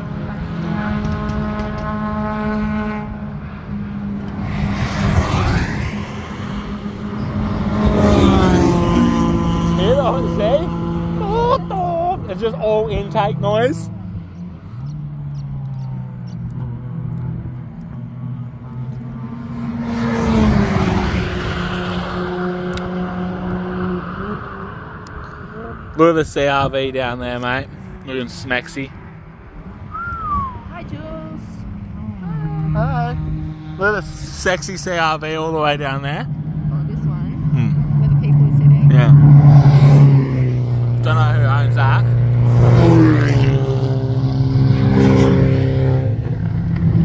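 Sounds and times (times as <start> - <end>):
car accelerating past: 0.0 - 47.0
drone of car engines: 0.0 - 47.0.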